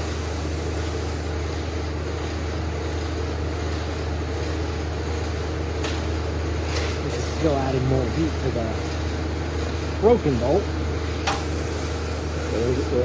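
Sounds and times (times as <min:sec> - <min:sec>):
welder humming and hissing: 0:00.0 - 0:13.0.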